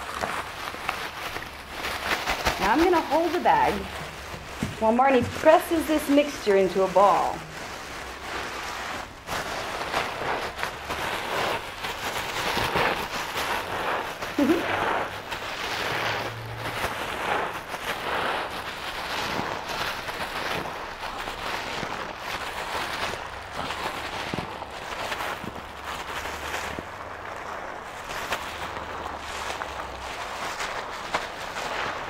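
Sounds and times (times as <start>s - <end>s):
plastic bags crinkling: 0.0s - 32.0s.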